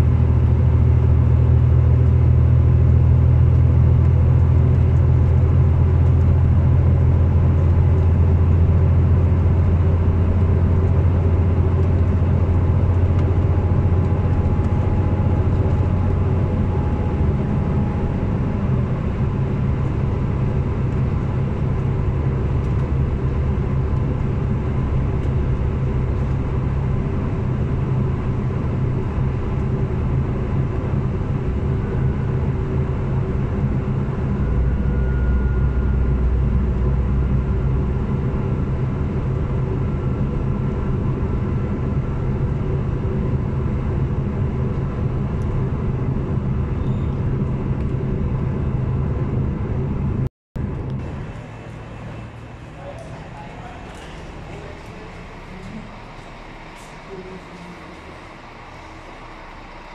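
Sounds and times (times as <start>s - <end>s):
train rumbling at speed: 0.0s - 59.9s.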